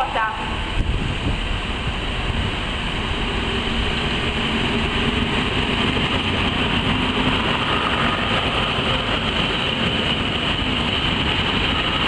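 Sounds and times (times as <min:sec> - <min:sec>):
wheels rumbling on rails: 0:00.4 - 0:12.0.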